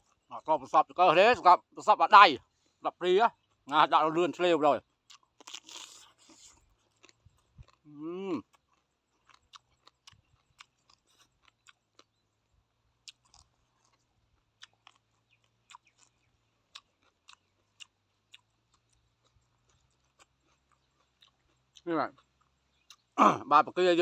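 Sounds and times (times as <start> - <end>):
person chewing: 0.0 - 0.3, 2.6 - 23.7.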